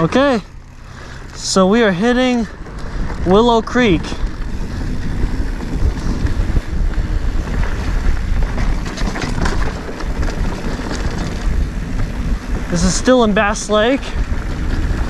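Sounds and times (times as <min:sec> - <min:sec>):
bike clicks and rattles: 0:00.0 - 0:15.0
bike tyres rumbling on dirt: 0:00.0 - 0:15.0
wind buffeting microphone: 0:00.0 - 0:15.0.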